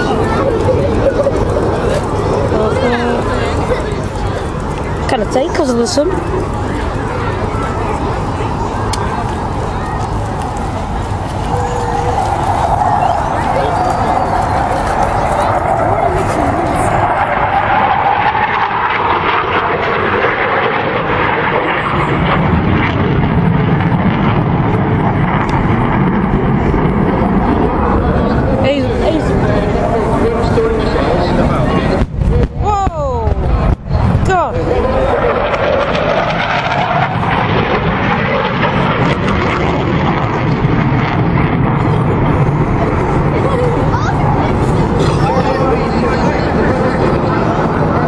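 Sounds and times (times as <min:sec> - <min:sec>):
deep rumble: 0:00.0 - 0:48.0
jet engine roar: 0:00.0 - 0:48.0.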